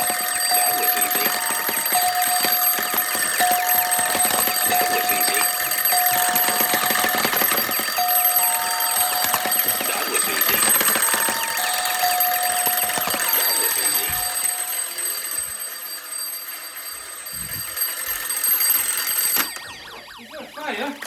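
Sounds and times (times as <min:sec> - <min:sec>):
alarms ringing and beeping: 0:00.0 - 0:21.0
steady high-pitched tones: 0:00.0 - 0:21.0.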